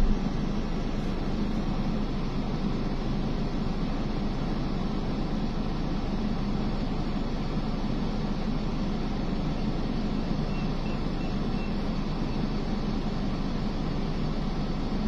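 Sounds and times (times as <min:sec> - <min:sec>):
car engine and ventilation hum: 0:00.0 - 0:15.0.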